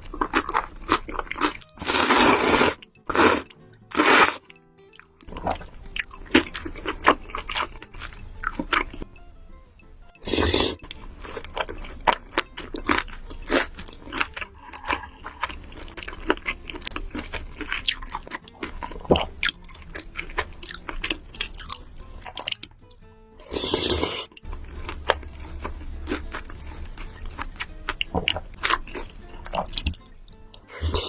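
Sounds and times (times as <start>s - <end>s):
person chewing pasta: 0.0s - 9.1s, 10.2s - 31.0s
background music: 0.0s - 31.0s.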